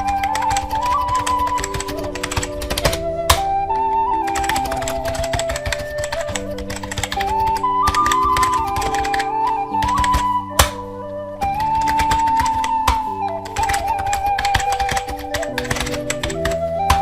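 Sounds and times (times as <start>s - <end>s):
rapid clicking: 0.0s - 10.8s, 11.4s - 17.0s
flute melody: 0.0s - 17.0s.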